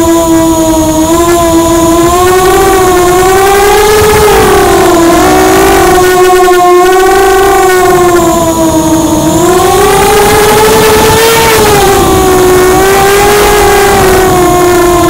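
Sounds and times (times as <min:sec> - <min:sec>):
quadcopter motors whining: 0:00.0 - 0:15.0
rushing noise: 0:00.0 - 0:15.0.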